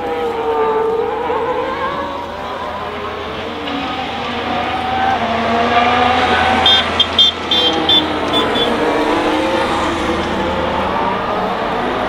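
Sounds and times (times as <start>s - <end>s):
distant race car engine: 0.0s - 12.0s.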